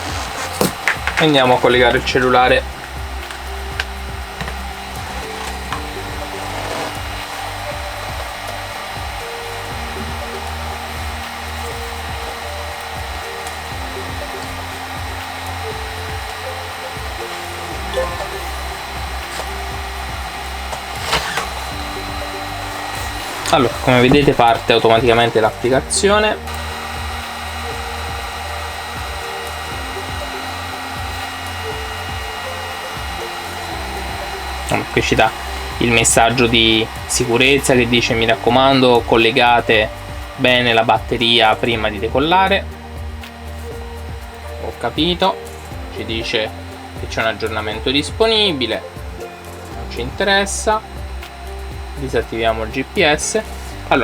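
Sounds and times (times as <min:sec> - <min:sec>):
quiet background music: 0:00.0 - 0:54.0
whirring hiss: 0:00.0 - 0:54.0.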